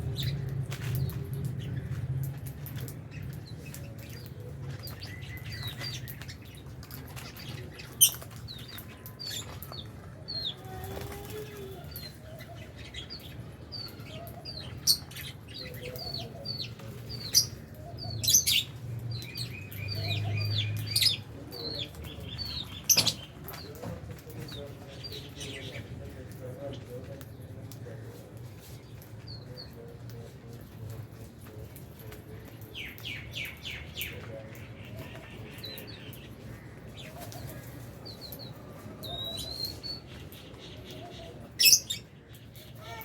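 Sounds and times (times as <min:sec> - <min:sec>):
lovebirds chirping: 0:00.0 - 0:30.0, 0:32.2 - 0:43.0.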